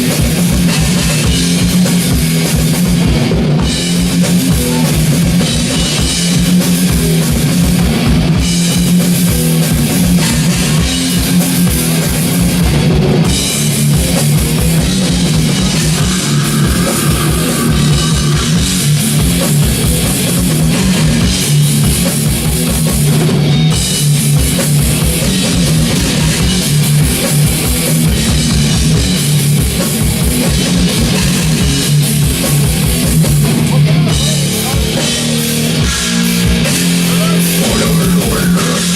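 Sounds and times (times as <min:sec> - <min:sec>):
metal band playing live: 0:00.0 - 0:38.9
rapid kick drum strokes: 0:00.0 - 0:38.9.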